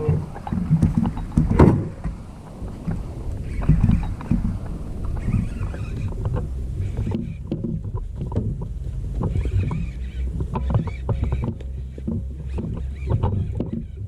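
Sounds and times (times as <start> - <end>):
knocks and clicks: 0.0 - 14.0
low rumble: 0.0 - 14.0
water sloshing against hull: 0.0 - 14.0.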